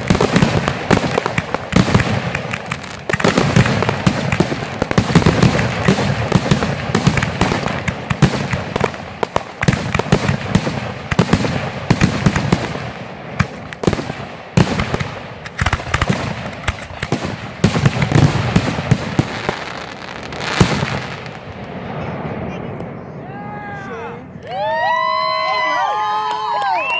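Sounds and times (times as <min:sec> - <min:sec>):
fireworks bursting: 0:00.0 - 0:23.5.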